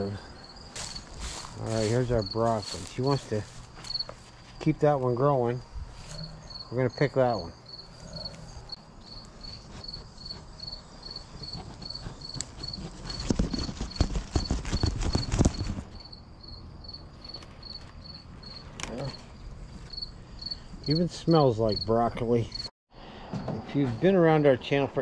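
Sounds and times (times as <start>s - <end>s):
cricket chirping: 0.0s - 22.7s.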